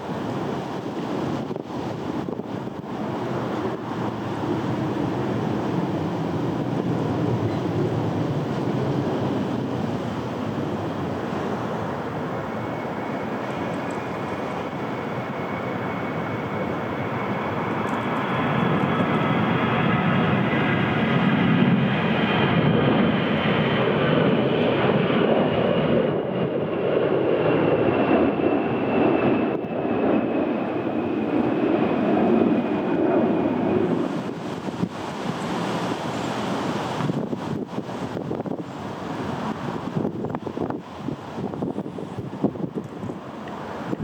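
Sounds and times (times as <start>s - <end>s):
jet engines passing by: 0.0s - 44.0s.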